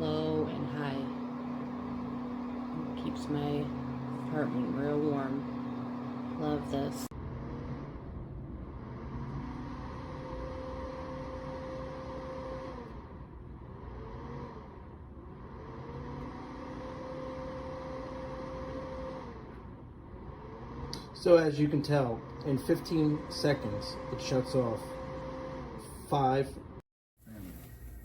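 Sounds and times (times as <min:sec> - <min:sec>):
faint rising and falling tone: 0:00.0 - 0:28.0
heater fan whirring: 0:00.0 - 0:28.0.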